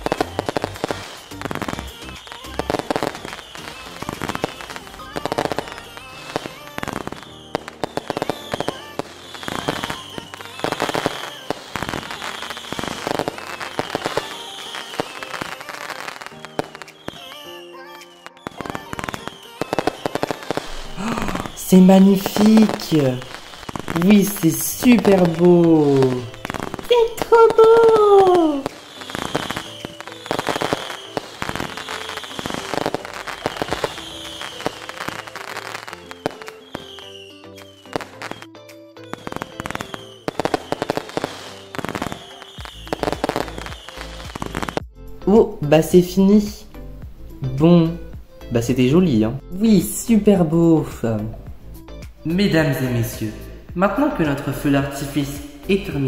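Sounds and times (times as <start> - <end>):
firework whistles: 0.0 - 44.9
fireworks crackling bangs: 0.0 - 44.9
background music with held notes: 0.0 - 56.0.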